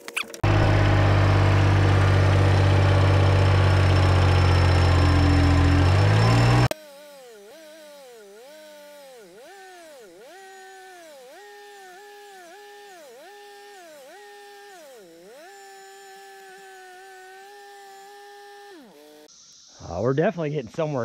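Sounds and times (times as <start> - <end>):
engine working through brush: 0.0 - 19.3.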